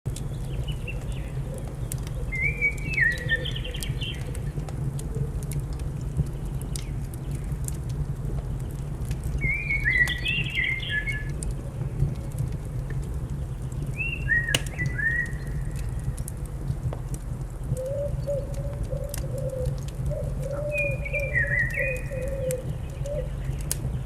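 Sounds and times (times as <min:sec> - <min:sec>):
fire crackling and popping: 0:00.1 - 0:24.0.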